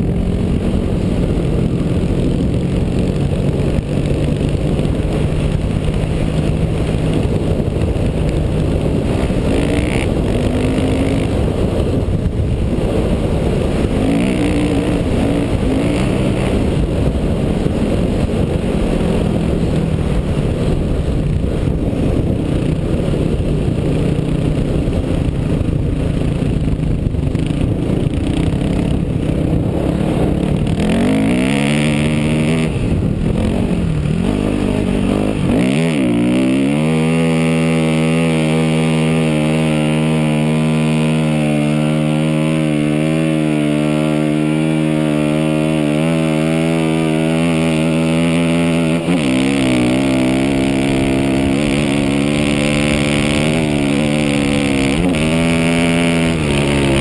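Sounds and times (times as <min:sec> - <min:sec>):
dirt bike engine revving: 0:00.0 - 0:57.0
heavy wind noise: 0:00.0 - 0:57.0.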